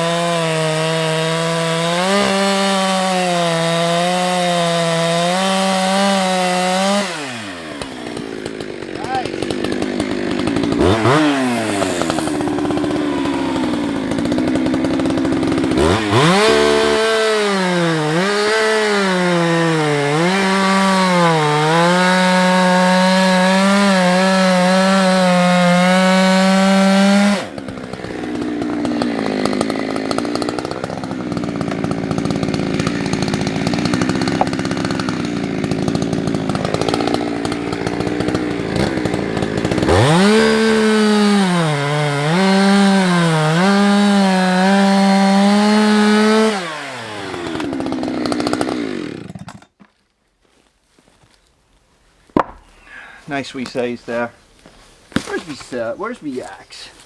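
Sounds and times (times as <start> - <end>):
chainsaw cutting wood: 0.0 - 49.9, 52.2 - 57.0.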